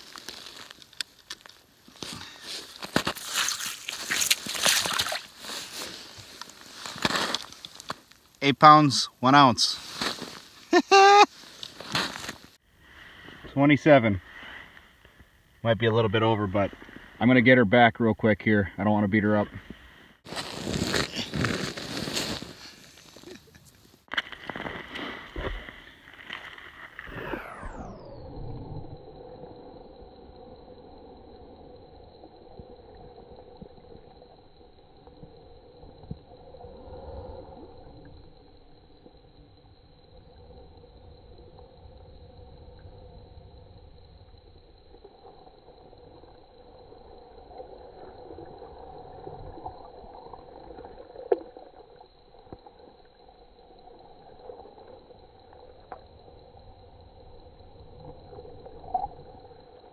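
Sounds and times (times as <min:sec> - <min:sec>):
water gurgling and sloshing: 0:00.0 - 0:08.2, 0:19.4 - 0:59.9.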